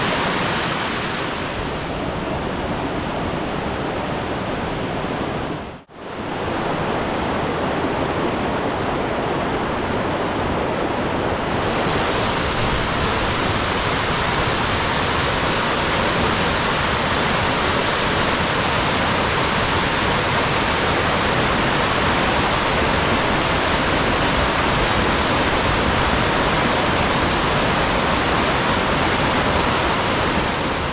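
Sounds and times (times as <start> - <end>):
stream water rushing: 0.0 - 30.9.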